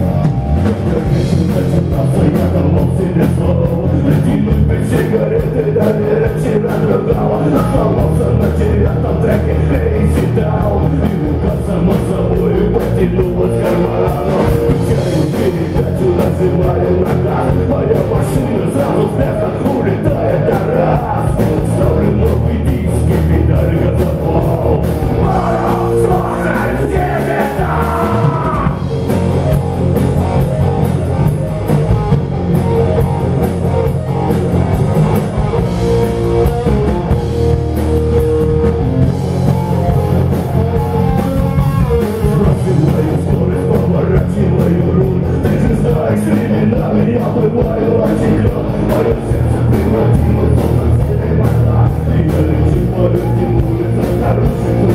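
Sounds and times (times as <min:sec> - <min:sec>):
electric guitar lead bending: 0:00.0 - 0:54.9
live rock band: 0:00.0 - 0:54.9.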